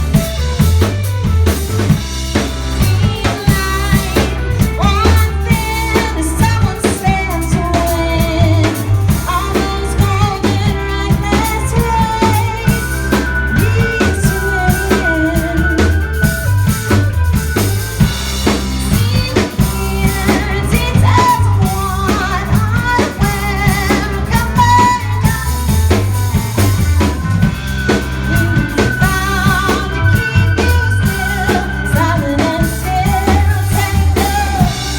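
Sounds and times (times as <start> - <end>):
bass: 0.0 - 34.9
drum kit beat: 0.0 - 34.9
rock band playing live: 0.0 - 34.9
wavering lead melody: 0.0 - 34.9.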